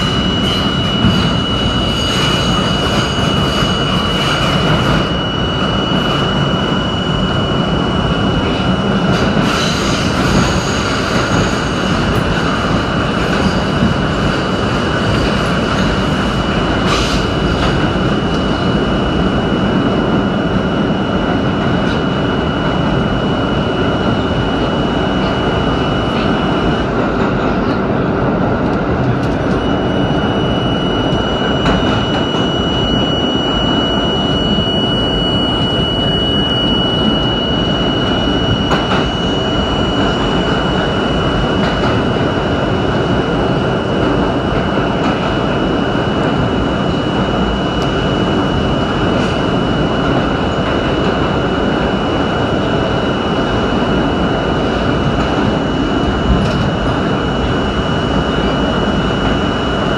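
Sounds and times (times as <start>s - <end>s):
subway train rumble and rattle: 0.0s - 59.9s
thin high whine: 0.0s - 59.9s.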